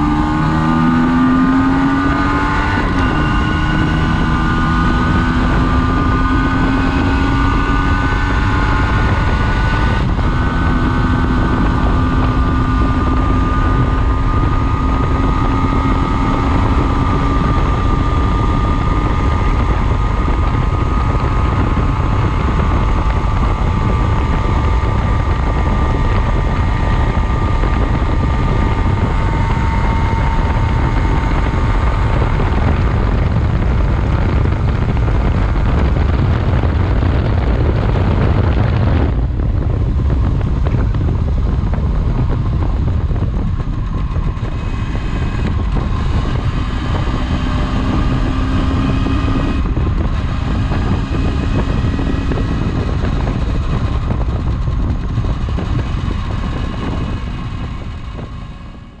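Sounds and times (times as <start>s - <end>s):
two-stroke motorcycle engine: 0.0s - 59.0s
wind rush on microphone: 0.0s - 59.0s.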